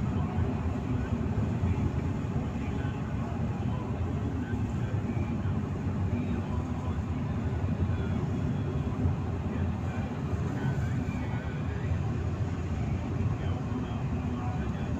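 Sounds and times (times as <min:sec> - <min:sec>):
car road and engine noise: 0:00.0 - 0:14.9.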